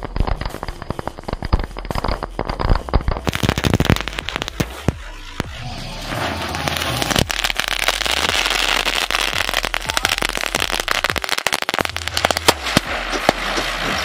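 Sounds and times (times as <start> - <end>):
firecrackers crackling and popping: 0.0 - 14.0.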